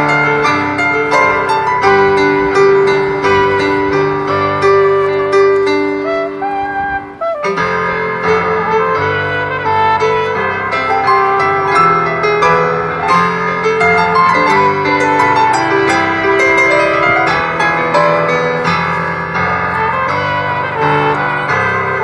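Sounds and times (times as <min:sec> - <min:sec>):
grand piano playing: 0:00.0 - 0:22.0.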